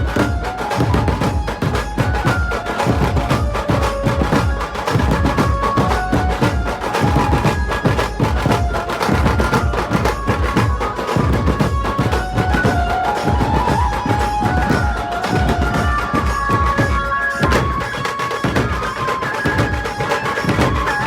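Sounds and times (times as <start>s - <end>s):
fast dense drumming: 0.0s - 21.0s
held melody line: 0.0s - 21.0s.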